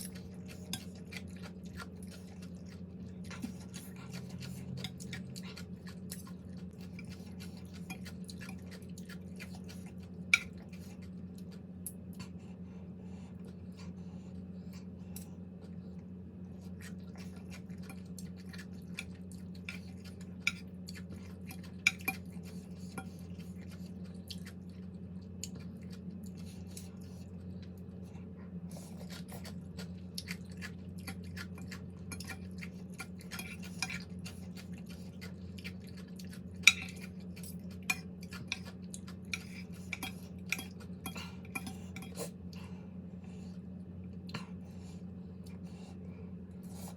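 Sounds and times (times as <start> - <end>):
eating sounds: 0.0 - 12.4, 13.3 - 46.9
steady low hum: 0.0 - 46.9.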